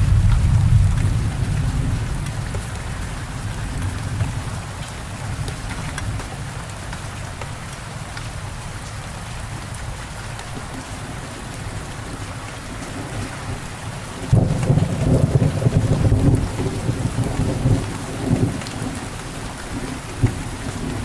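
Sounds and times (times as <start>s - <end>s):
raindrops ticking: 0.0s - 21.0s
steady rain falling: 0.0s - 21.0s.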